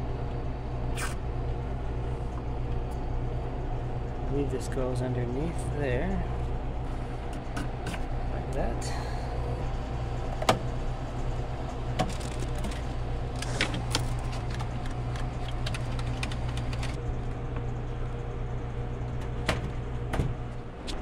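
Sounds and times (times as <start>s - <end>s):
ice machine humming: 0.0s - 21.0s.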